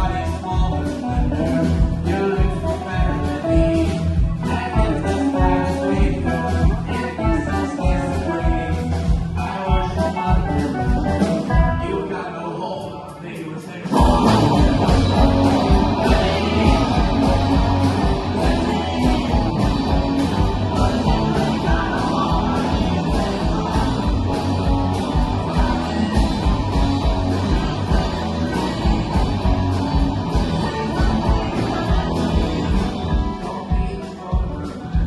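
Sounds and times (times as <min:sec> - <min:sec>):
driving drum beat: 0:00.0 - 0:12.0, 0:13.8 - 0:35.0
rock band playing: 0:00.0 - 0:12.2, 0:13.8 - 0:35.0.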